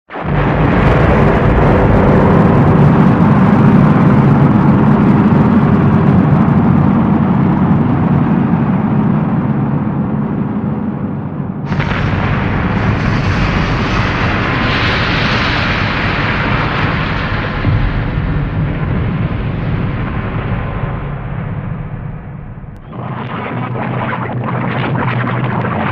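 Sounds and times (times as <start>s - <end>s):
deep volcanic rumble: 0.1s - 25.9s.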